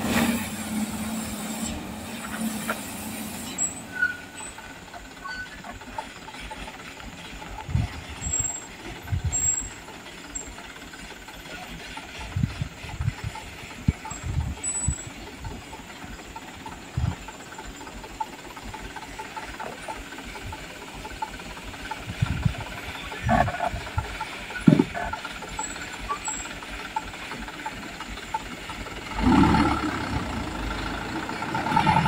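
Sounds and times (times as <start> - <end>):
truck engine running low: 0.0 - 32.0.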